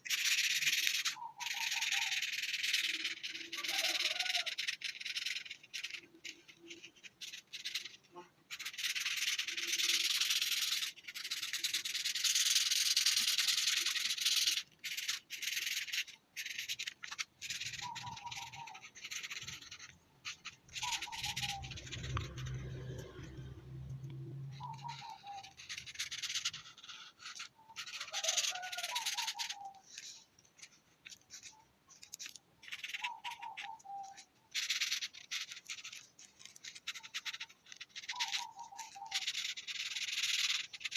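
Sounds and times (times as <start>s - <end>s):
coloring tool scratching paper: 0.0s - 23.4s, 24.5s - 40.9s.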